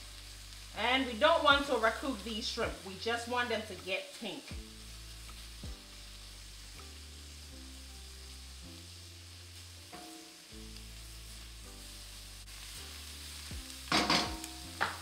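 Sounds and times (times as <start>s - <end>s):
food sizzling in oil: 0.0s - 15.0s
soft background music: 0.0s - 15.0s.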